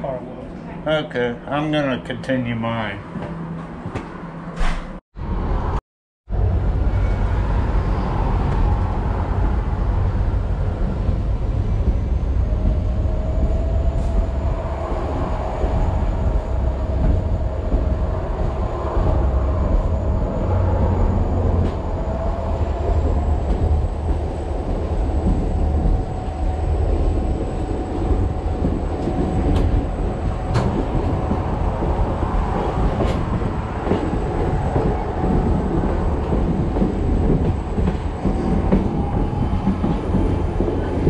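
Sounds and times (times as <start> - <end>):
train wheels rumbling on rails: 3.2 - 41.0.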